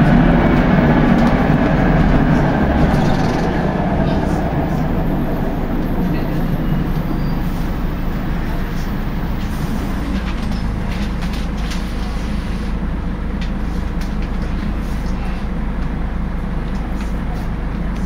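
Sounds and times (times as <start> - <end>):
bus drivetrain churning: 0.0 - 18.0.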